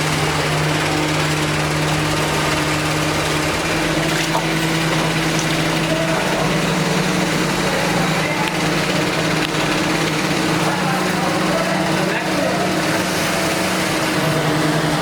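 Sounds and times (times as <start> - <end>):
machine motor humming: 0.0 - 15.0.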